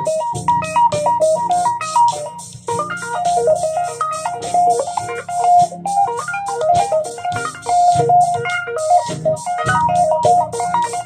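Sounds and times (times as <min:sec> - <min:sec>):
electric guitar tapping runs: 0:00.0 - 0:11.0
fast ticking beat: 0:00.0 - 0:11.0.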